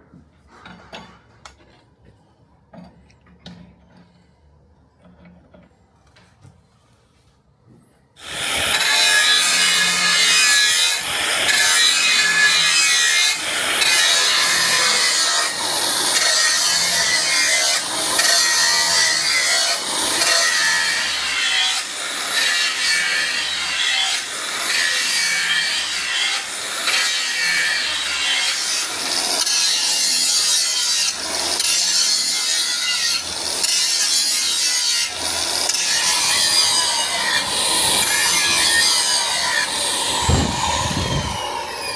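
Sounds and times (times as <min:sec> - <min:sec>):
hand saw scraping back and forth: 0:08.2 - 0:41.9.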